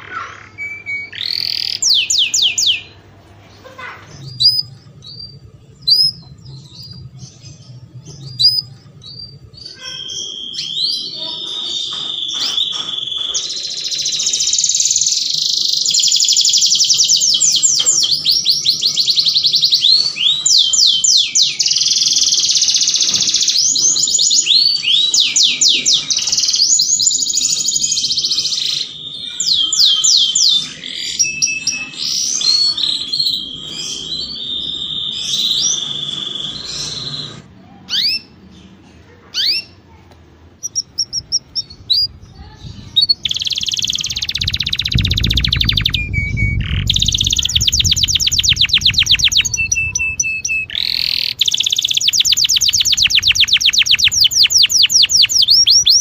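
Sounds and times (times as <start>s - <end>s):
canary singing trills: 0.0s - 39.9s, 40.6s - 56.0s.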